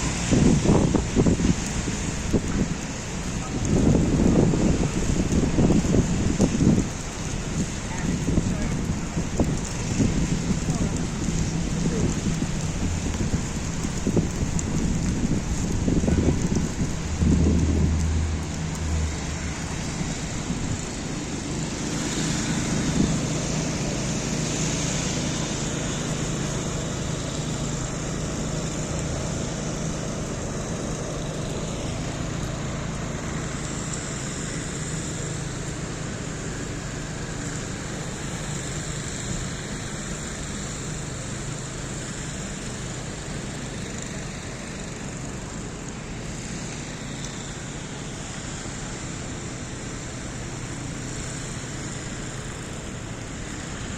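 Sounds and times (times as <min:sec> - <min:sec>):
low engine hum: 0:00.0 - 0:53.9
passing vehicles rushing: 0:00.0 - 0:53.9.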